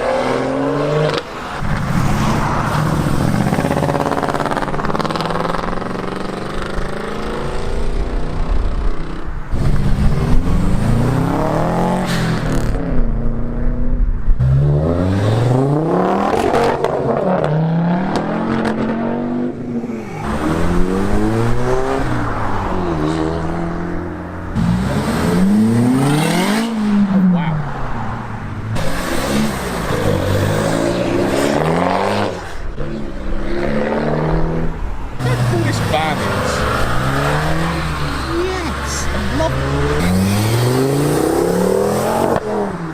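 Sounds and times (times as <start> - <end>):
car engines revving through gears: 0.0 - 42.9.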